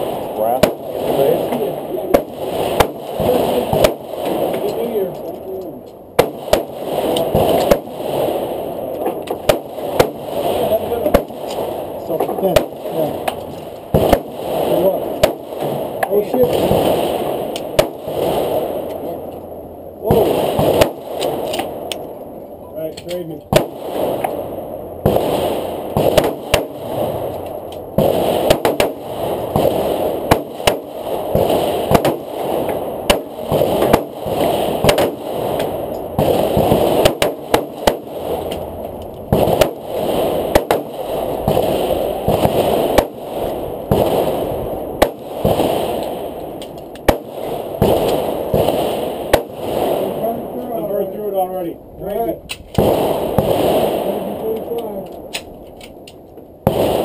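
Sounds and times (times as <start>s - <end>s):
steady rushing noise: 0.0s - 55.9s.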